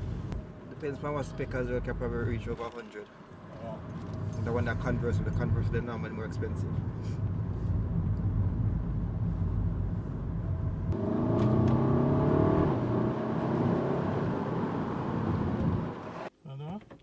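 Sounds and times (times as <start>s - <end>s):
car engine: 0.0s - 16.3s
road rumble: 0.0s - 16.3s.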